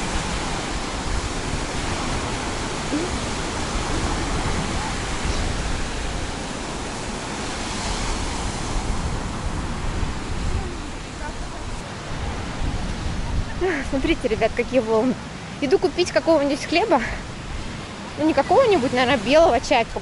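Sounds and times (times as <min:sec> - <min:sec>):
waves breaking on shore: 0:00.0 - 0:20.0
wind rumbling on microphone: 0:00.0 - 0:20.0.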